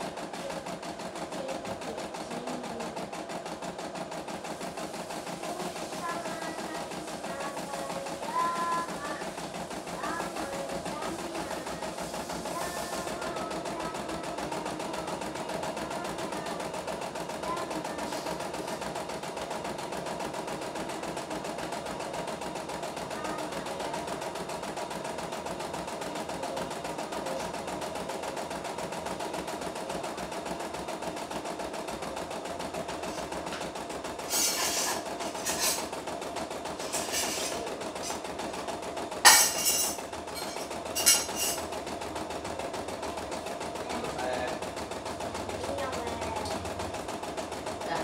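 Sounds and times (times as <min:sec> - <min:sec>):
embroidery machine stitching: 0:00.0 - 0:48.0.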